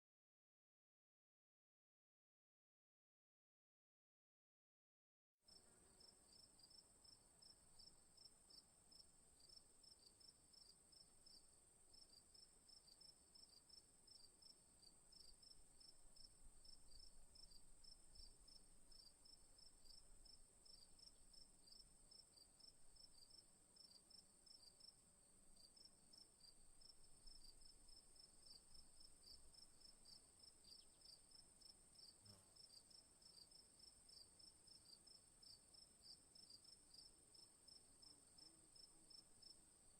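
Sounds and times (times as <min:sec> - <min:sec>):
crickets chirping: 0:06.0 - 0:39.9.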